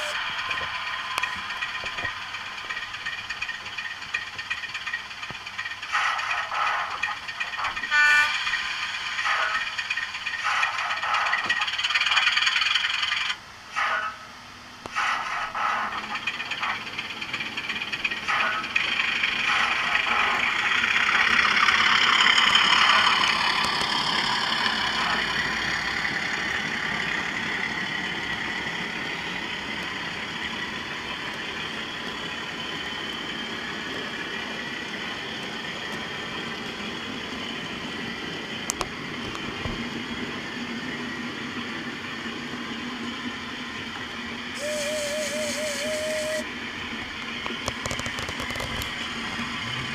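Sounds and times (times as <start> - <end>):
model locomotive diesel engine sound: 0.0 - 49.9
model train wheels on track: 0.0 - 49.9.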